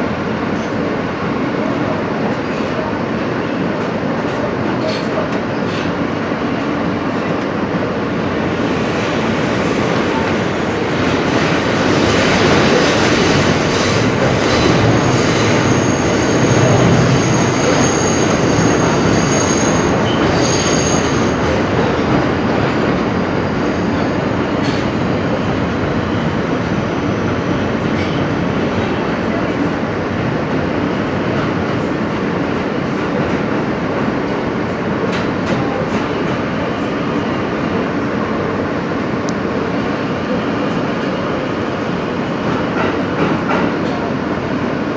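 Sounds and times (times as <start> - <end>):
subway wheels rumbling on rails: 0.0 - 44.9.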